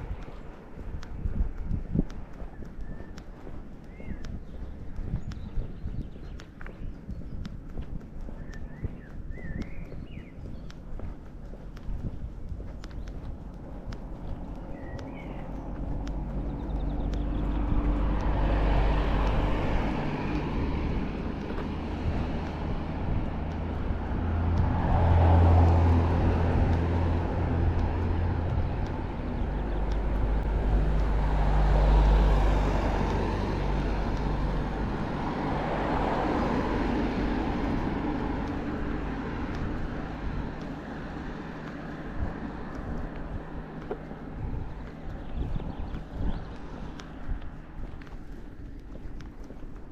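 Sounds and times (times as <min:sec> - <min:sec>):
cars passing: 0:00.0 - 0:49.9
steady traffic rumble: 0:00.0 - 0:49.9.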